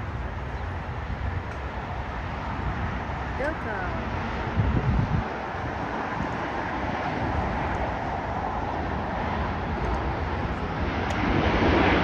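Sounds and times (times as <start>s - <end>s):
jet engines roaring: 0.0s - 12.0s
wind on microphone: 0.0s - 12.0s.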